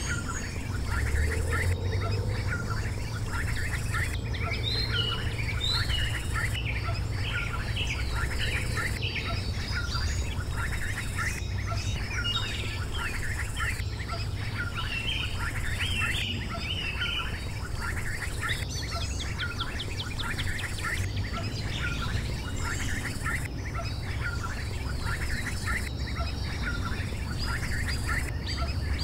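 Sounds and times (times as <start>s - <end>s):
ducklings peeping: 0.0s - 29.0s
steady low hum: 0.0s - 29.0s.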